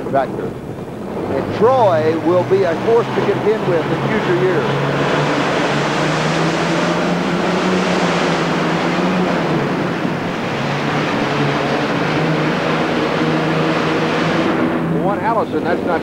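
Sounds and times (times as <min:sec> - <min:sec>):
aircraft engine droning under load: 0:00.0 - 0:16.0.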